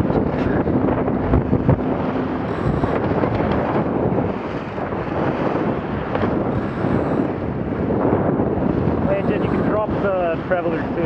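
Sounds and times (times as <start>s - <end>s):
water rushing along boat hull: 0.0s - 11.0s
wind buffeting microphone: 0.0s - 11.0s.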